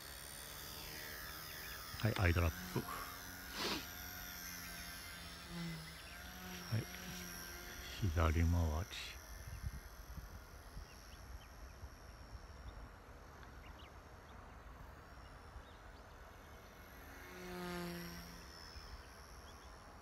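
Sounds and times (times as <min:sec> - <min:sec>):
rc helicopter rotor buzzing: 0:00.0 - 0:20.0.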